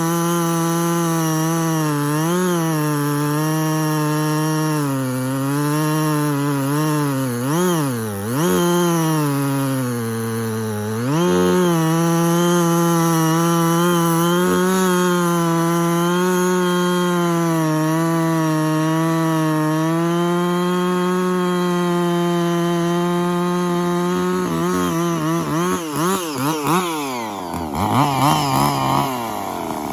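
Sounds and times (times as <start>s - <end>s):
chainsaw running under load: 0.0s - 29.9s.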